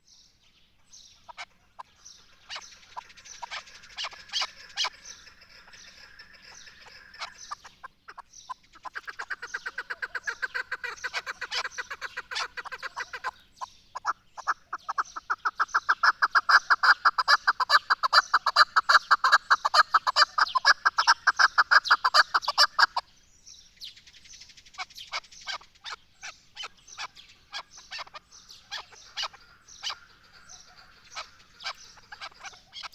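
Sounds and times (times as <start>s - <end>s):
partridge clucking call: 1.2s - 23.1s, 24.8s - 32.9s.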